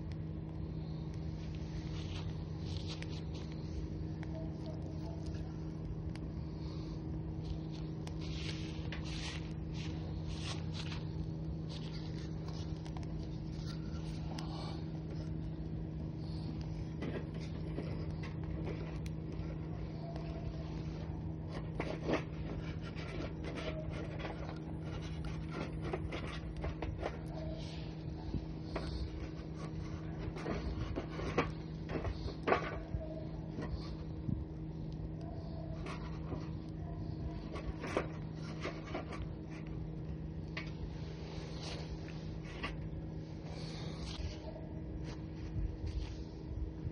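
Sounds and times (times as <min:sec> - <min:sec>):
steady low hum: 0:00.0 - 0:46.9
wood fire crackling: 0:00.0 - 0:46.9.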